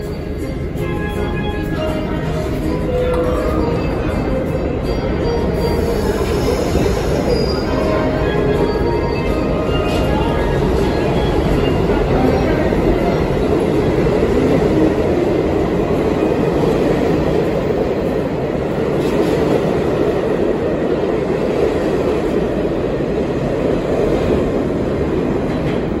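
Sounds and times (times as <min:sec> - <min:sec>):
subway train wheels on rails: 0:00.0 - 0:26.0.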